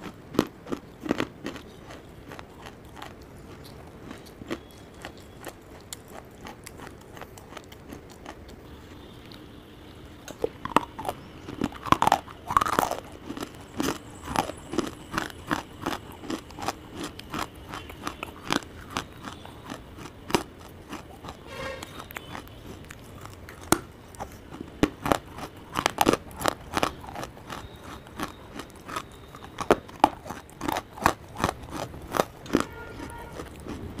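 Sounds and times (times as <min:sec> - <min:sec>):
crunching and chewing hard clay: 0:00.0 - 0:34.0.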